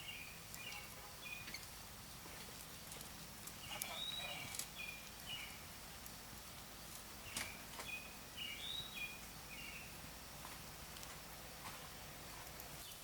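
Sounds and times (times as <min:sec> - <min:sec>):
bird chirping: 0:00.0 - 0:01.8, 0:02.4 - 0:11.0, 0:11.8 - 0:13.0
outdoor ambience: 0:00.0 - 0:13.0.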